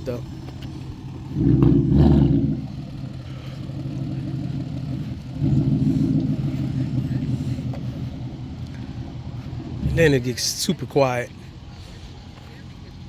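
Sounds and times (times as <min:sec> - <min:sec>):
car exhaust rumbling at idle: 0:00.0 - 0:13.0.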